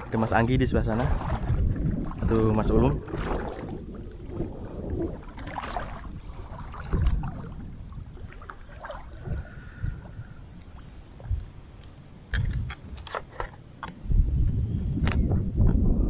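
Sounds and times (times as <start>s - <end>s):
water sloshing from wading: 0.0s - 14.0s.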